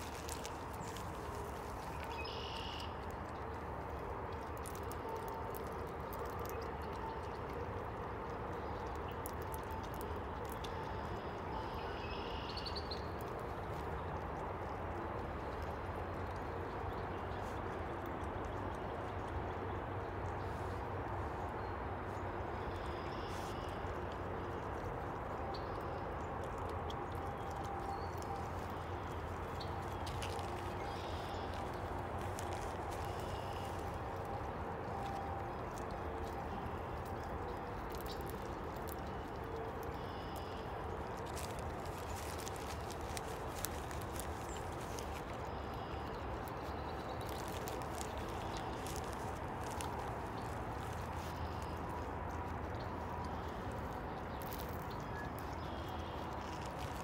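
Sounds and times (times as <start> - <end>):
raccoons eating seeds: 0.0 - 57.0.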